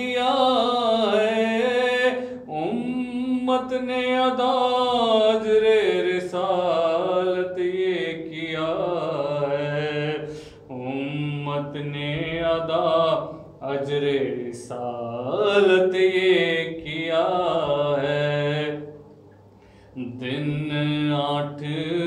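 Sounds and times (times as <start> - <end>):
person chanting: 0.0 - 18.9, 20.0 - 22.0.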